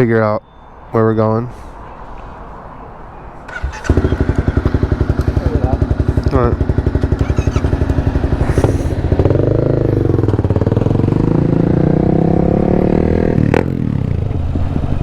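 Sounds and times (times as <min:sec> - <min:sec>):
motorcycle engine idling and revving: 0:01.6 - 0:15.0.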